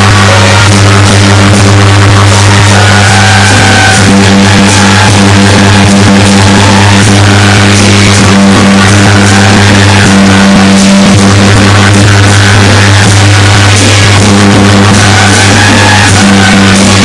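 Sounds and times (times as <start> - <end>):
distorted music over loudspeaker: 0.0 - 17.0.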